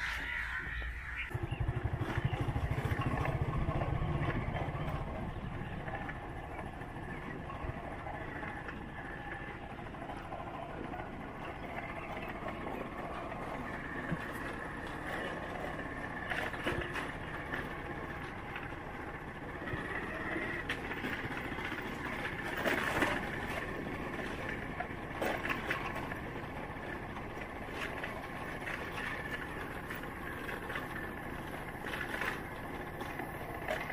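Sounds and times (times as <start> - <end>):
vehicle engine running: 0.0 - 33.9.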